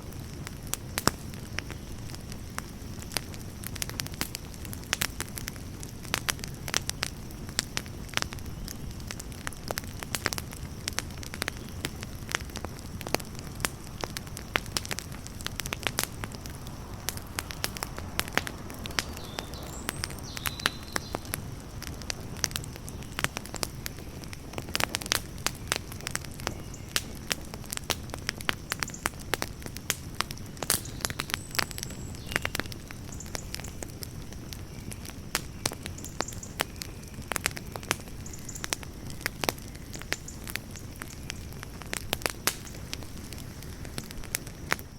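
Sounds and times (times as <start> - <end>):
campfire burning: 0.0 - 44.9
fire crackling and popping: 0.0 - 44.9.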